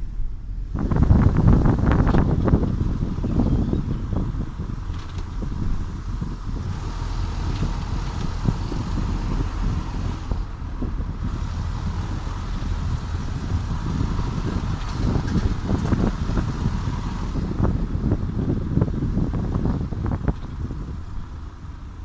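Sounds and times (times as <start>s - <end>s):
road and tyre rumble: 0.0s - 22.0s.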